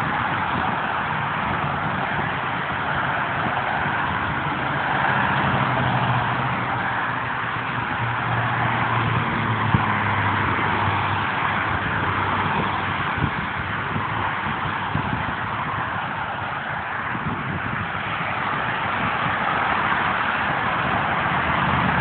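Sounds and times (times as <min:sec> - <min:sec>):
freeway traffic rushing: 0:00.0 - 0:22.0
low engine hum: 0:00.0 - 0:22.0.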